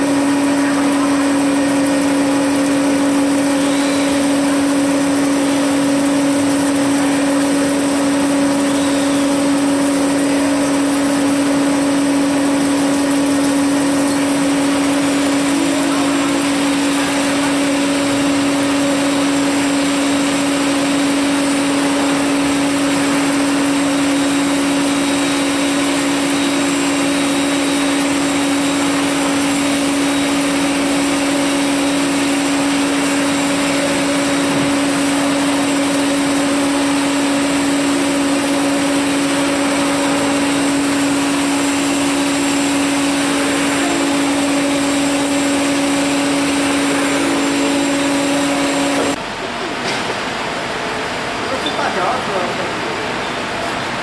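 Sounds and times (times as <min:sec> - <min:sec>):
drilling machine humming: 0:00.0 - 0:54.0.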